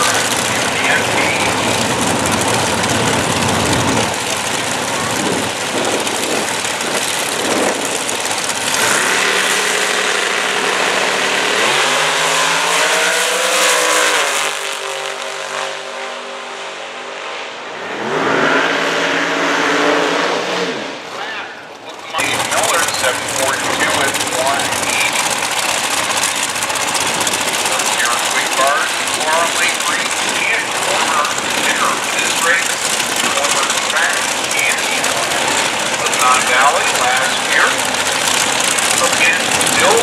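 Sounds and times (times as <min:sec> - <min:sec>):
race car engines accelerating: 0:00.0 - 0:40.0.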